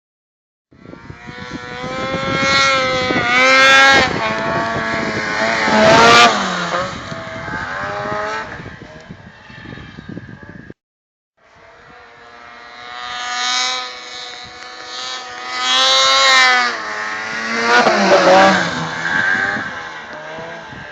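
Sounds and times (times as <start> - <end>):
snowmobile engine revving: 0.8 - 9.6, 11.5 - 20.9.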